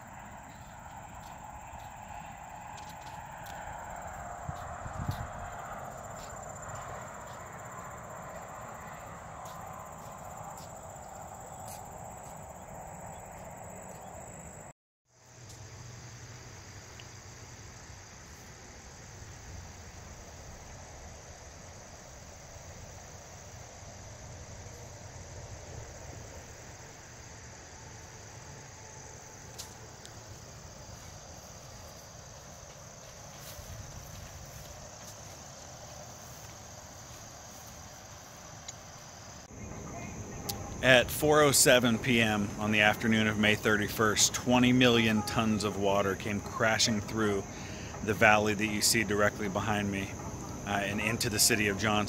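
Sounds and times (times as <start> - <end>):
insects chirring: 0.0 - 52.0.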